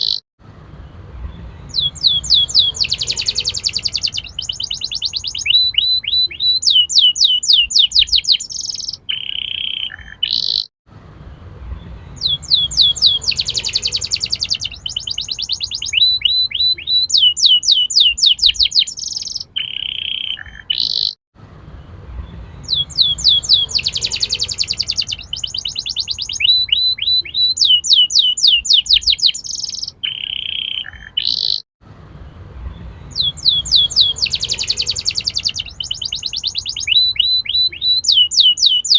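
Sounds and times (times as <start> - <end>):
canary singing trills and whistles: 0.0 - 0.2, 1.3 - 10.7, 11.8 - 21.2, 22.3 - 31.6, 32.7 - 38.9.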